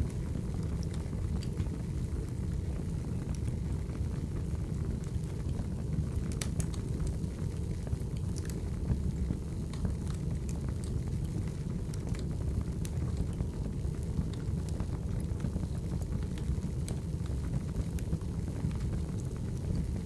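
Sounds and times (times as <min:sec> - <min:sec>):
fire crackles and pops: 0:00.0 - 0:20.0
low rumble of flames: 0:00.0 - 0:20.0.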